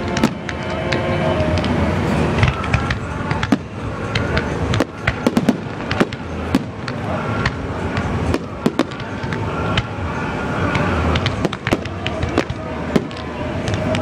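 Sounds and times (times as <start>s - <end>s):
continuous low din: 0.0s - 14.0s
fireworks bangs and crackles: 0.0s - 14.0s.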